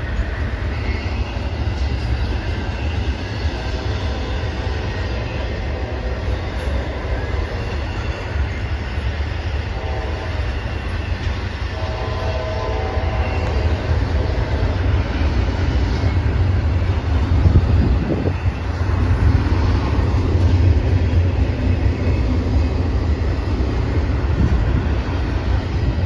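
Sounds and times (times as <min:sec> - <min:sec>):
freight train wheels rumbling on rails: 0:00.0 - 0:26.0
train wheels squealing: 0:00.0 - 0:26.0.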